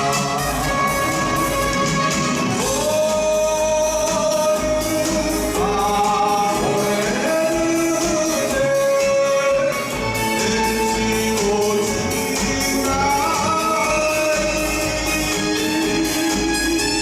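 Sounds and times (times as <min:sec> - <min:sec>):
instrumental accompaniment: 0:00.0 - 0:17.0
man singing long held notes: 0:02.5 - 0:17.0.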